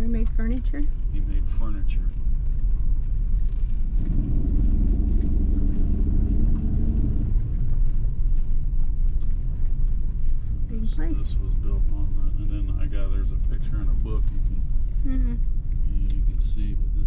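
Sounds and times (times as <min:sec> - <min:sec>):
steady engine hum: 0:00.0 - 0:17.0
vehicle engine rumbling: 0:00.0 - 0:17.0.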